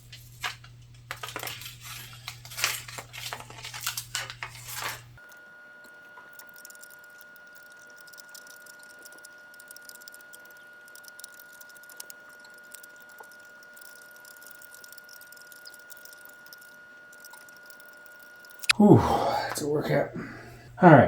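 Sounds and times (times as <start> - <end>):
duct tape crackling: 0.1 - 5.2, 6.2 - 18.8.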